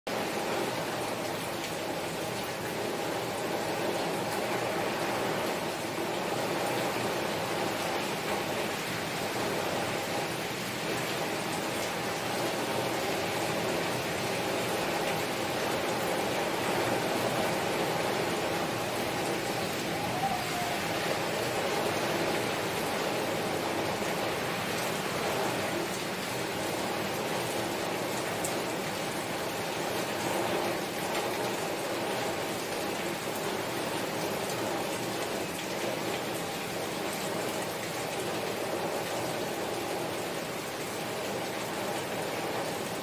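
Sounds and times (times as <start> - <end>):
rain on a window: 0.1 - 43.0.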